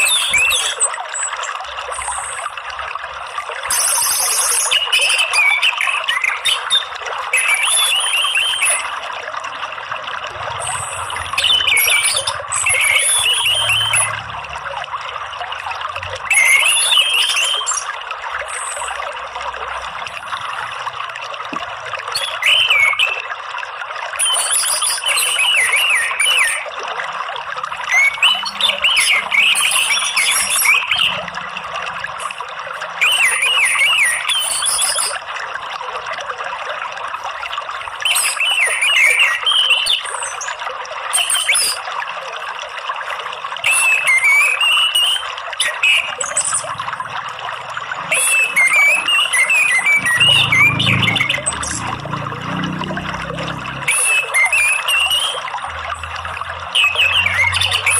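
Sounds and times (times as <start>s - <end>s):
trickle of running water: 0.0s - 57.9s.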